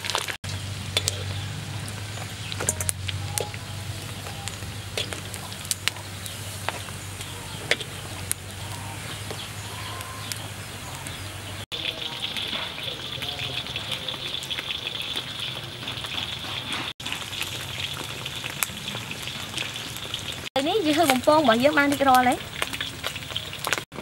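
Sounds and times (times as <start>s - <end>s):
hot oil sizzling: 0.0s - 24.0s
sharp oil crackles: 0.0s - 24.0s.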